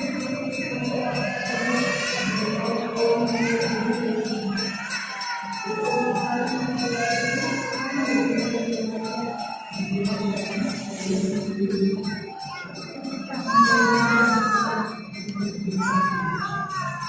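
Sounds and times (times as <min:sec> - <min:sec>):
jingling tambourine beat: 0:00.0 - 0:17.0
song with singing voices: 0:00.0 - 0:17.0.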